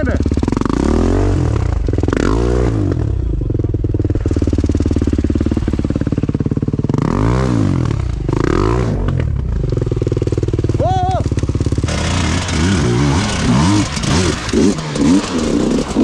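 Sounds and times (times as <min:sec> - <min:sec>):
dirt bike engine idling and revving: 0:00.0 - 0:16.0.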